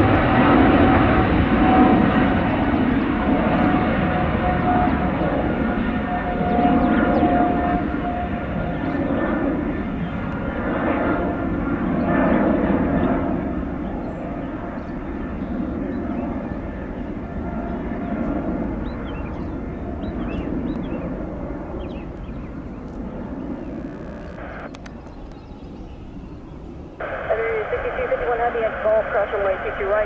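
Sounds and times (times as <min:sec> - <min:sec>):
jet engines rushing with fan whine: 0:00.0 - 0:30.0.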